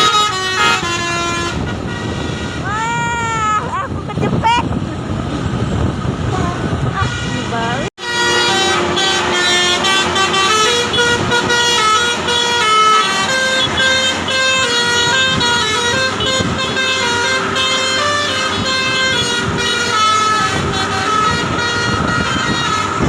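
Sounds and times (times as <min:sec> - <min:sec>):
musical air horn playing a tune: 0:00.0 - 0:02.7, 0:06.9 - 0:23.0.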